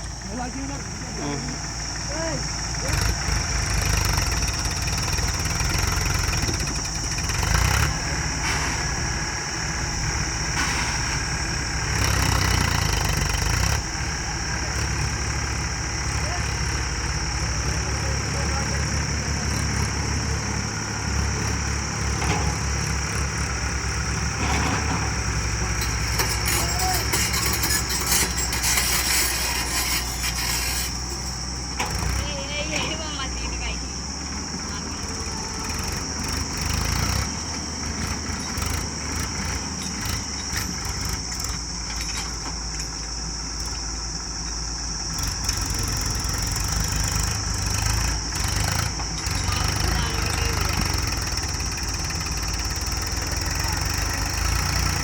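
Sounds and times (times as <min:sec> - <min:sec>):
constant high-pitched tone: 0:00.0 - 0:55.0
diesel engine chugging: 0:00.0 - 0:55.0.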